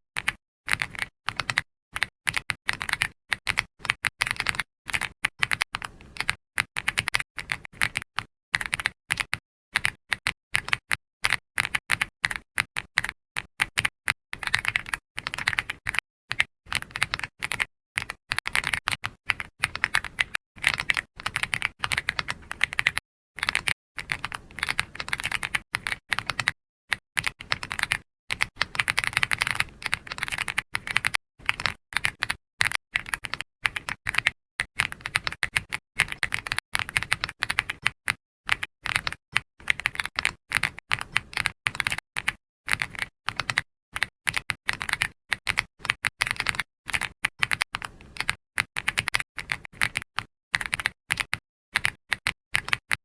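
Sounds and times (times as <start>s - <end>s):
keyboard typing clicks: 0.2s - 53.0s.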